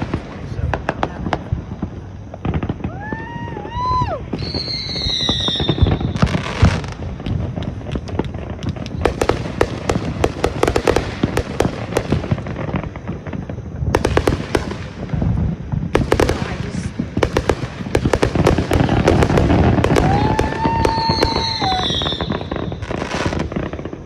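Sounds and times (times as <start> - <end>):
firework crackling and popping: 0.0 - 24.0
firework whistling: 0.0 - 24.0.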